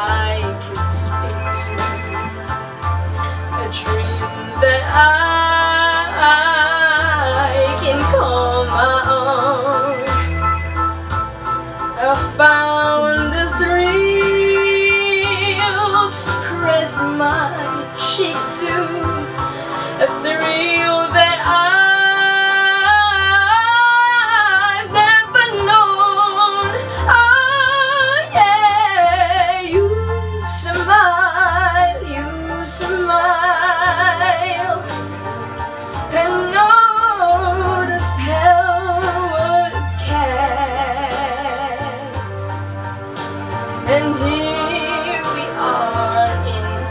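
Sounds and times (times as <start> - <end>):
girl singing a ballad: 0.0 - 10.5, 12.0 - 35.1, 35.9 - 42.9, 43.8 - 46.9
karaoke backing track: 0.0 - 46.9.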